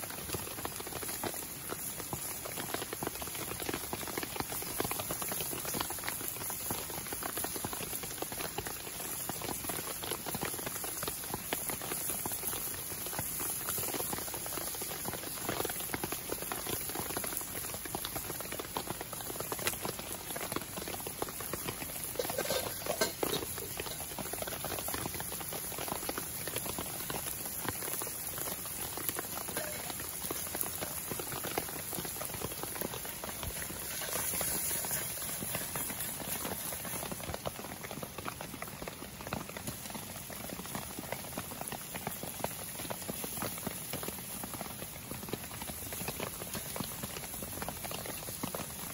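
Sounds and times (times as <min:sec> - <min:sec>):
campfire crackling: 0:00.0 - 0:48.9
rain pattering: 0:00.0 - 0:48.9
vegetables sizzling in frying pan: 0:00.0 - 0:48.9.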